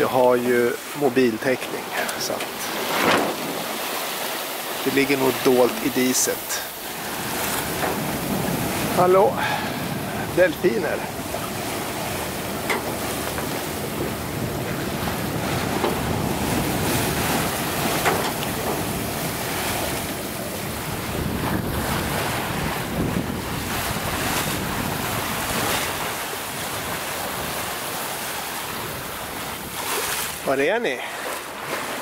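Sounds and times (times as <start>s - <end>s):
bow wave splashing along hull: 0.0s - 32.0s
wind buffeting microphone: 2.4s - 30.4s.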